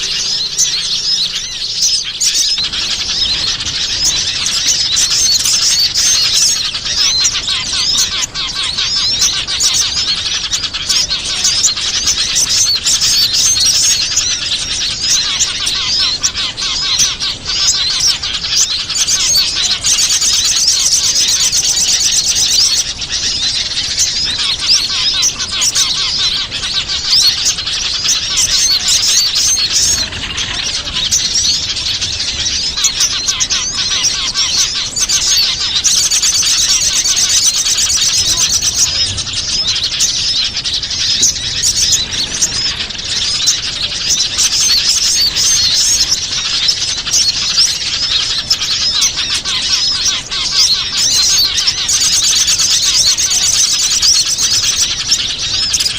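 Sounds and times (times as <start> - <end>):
many birds chirping: 0.0 - 55.9.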